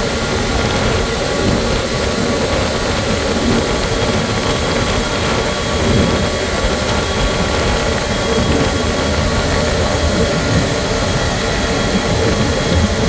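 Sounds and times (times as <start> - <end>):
faint high whine: 0.0 - 13.0
jet engines rushing and rumbling: 0.0 - 13.0.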